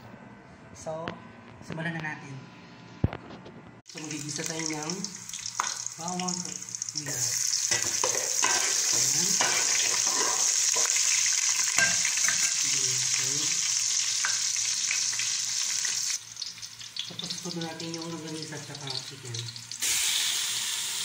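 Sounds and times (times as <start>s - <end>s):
garlic sizzling in hot oil: 3.9s - 21.0s.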